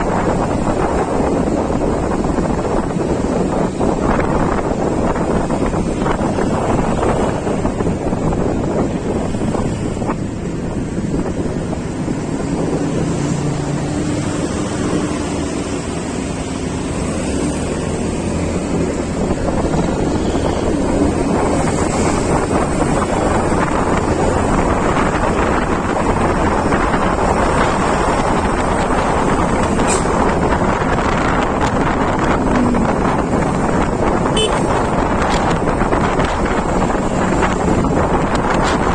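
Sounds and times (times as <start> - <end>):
vehicle noise: 0.0 - 38.9
wind rushing over microphone: 0.0 - 38.9.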